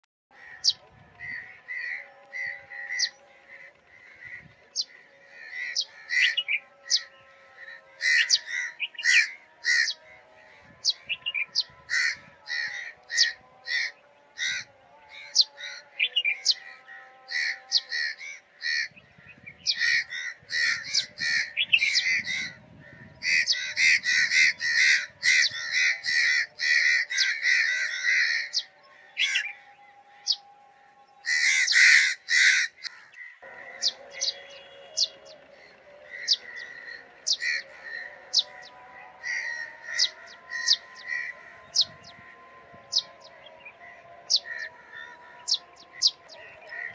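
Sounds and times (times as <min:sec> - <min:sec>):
sparrows chirping: 0:00.4 - 0:46.9.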